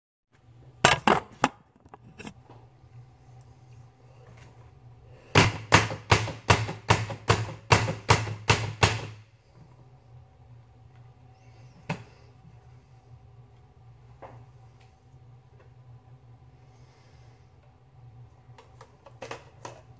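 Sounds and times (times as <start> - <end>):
low steady hum: 0.3 - 19.9.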